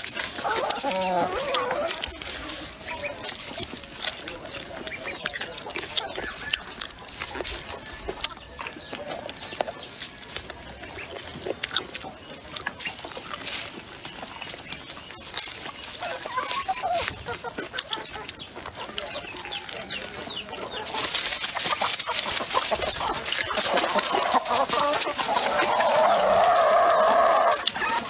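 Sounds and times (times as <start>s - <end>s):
chewing and lip-smacking: 0.0s - 26.4s
chickens clucking: 0.0s - 28.0s.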